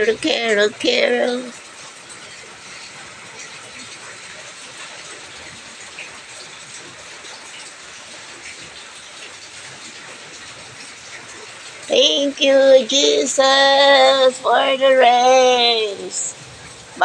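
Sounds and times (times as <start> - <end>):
rain on concrete patio: 0.0 - 17.0.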